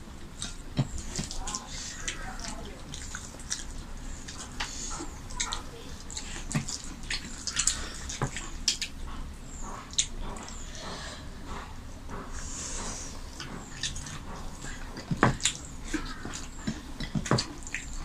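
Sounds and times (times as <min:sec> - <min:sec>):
wet chewing and squelching: 0:00.0 - 0:18.0.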